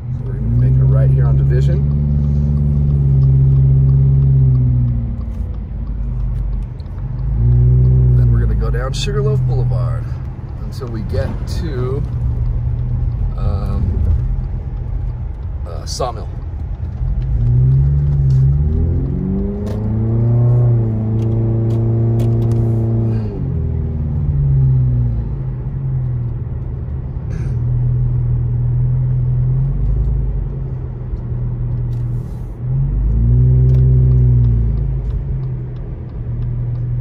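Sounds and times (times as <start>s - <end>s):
car engine accelerating: 0.0s - 37.0s
light regular ticking: 0.0s - 37.0s.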